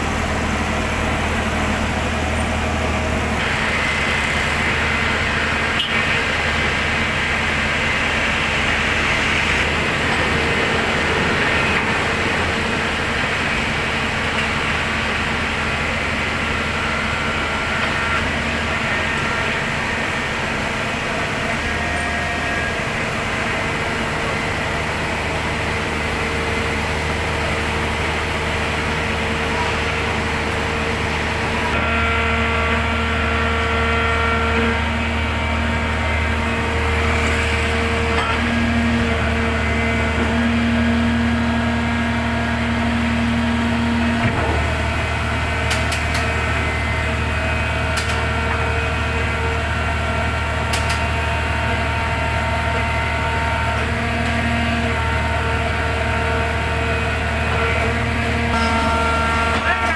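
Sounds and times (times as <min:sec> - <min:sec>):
pile driver engine rumbling: 0:00.0 - 0:59.9.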